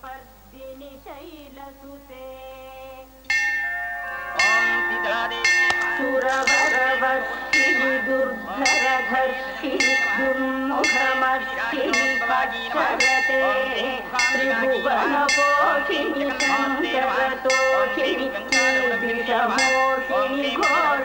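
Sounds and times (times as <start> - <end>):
music with wavering melody: 3.3 - 21.0
temple bells ringing: 3.3 - 21.0.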